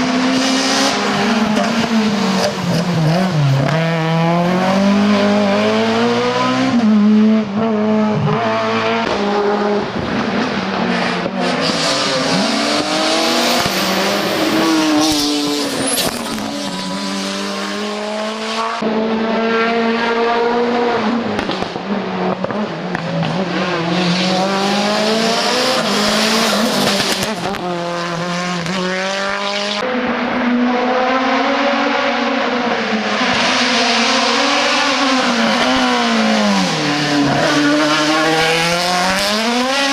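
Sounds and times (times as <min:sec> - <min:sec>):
race cars accelerating: 0:00.0 - 0:39.9.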